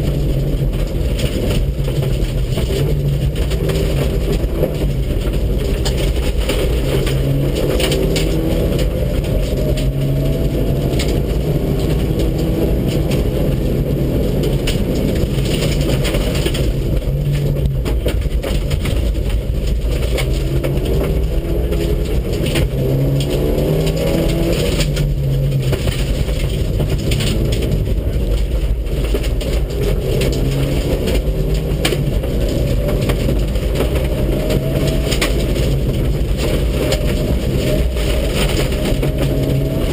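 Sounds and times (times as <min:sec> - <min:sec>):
car engine accelerating hard: 0:00.0 - 0:39.9
road noise: 0:00.0 - 0:39.9.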